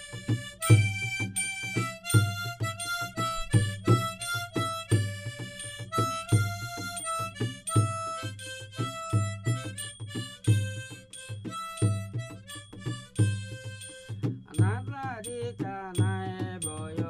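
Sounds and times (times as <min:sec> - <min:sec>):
melody of short pitched notes: 0:00.0 - 0:14.6
steady low beat: 0:00.0 - 0:17.0.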